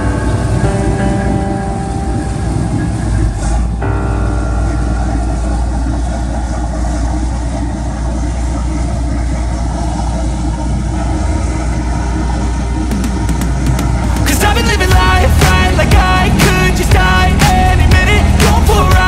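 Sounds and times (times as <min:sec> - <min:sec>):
boat diesel engines running: 0:00.0 - 0:19.0.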